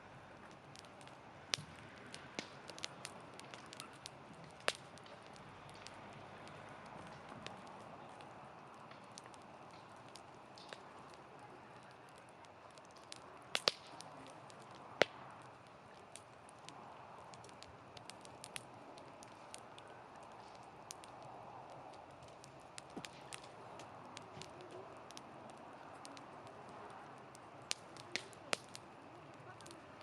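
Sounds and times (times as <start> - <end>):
fire crackles and pops: 0.0 - 30.0
wood fire burning: 0.0 - 30.0.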